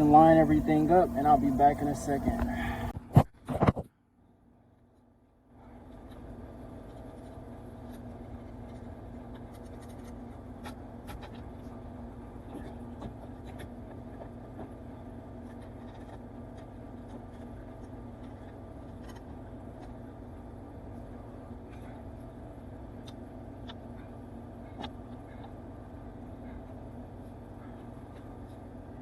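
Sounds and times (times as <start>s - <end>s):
steady low hum: 0.0s - 3.0s, 4.3s - 29.0s.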